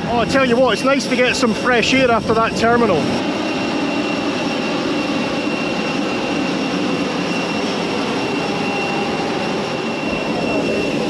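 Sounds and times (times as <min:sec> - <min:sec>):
jet aircraft drone: 0:00.0 - 0:11.0.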